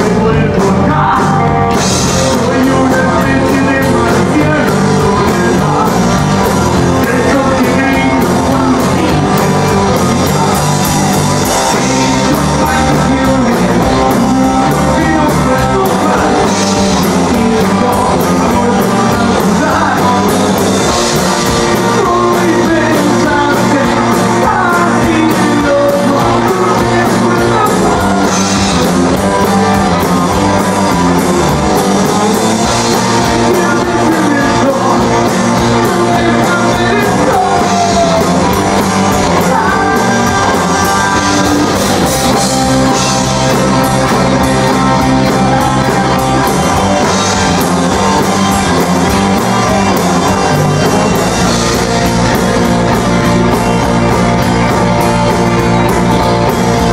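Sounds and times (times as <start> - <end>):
person singing: 0.0 - 56.9
rock band playing: 0.0 - 56.9.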